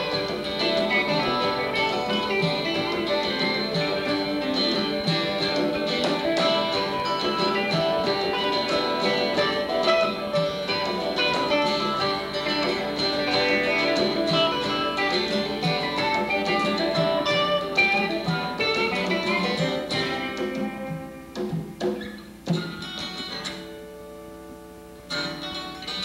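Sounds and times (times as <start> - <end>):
live band with guitar: 0.0 - 26.0.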